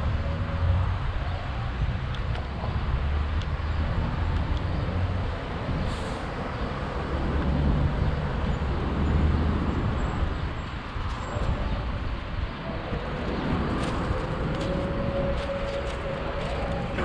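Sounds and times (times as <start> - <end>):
road traffic rumble: 0.0 - 17.0
wind on microphone: 0.0 - 17.0.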